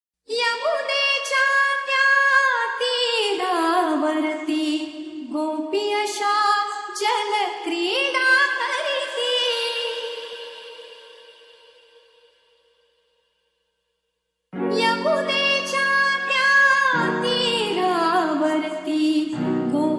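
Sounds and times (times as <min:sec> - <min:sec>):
woman singing unaccompanied: 0:00.3 - 0:11.7, 0:14.6 - 0:19.9.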